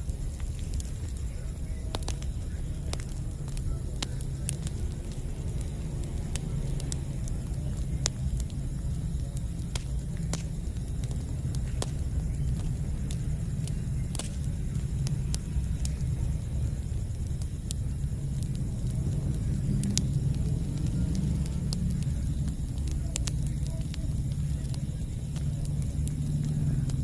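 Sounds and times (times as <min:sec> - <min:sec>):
burning wood crackling and popping: 0:00.0 - 0:27.0
low fire rumble: 0:00.0 - 0:27.0.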